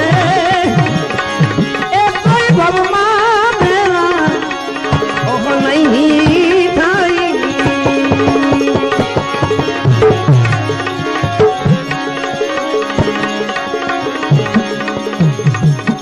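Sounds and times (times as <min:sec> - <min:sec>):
tabla rhythm: 0:00.0 - 0:16.0
long held melody notes: 0:00.1 - 0:16.0.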